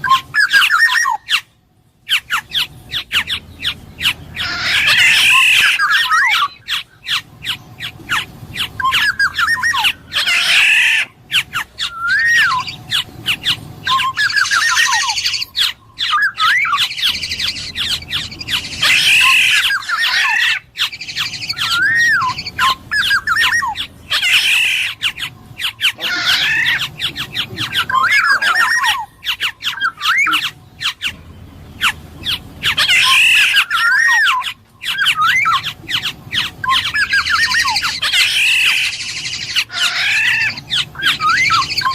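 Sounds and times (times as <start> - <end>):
fluty whistled bird notes: 0.0 - 1.5, 2.1 - 41.9
harsh scratchy bird squawks: 0.0 - 1.5, 2.1 - 31.2, 31.8 - 41.9.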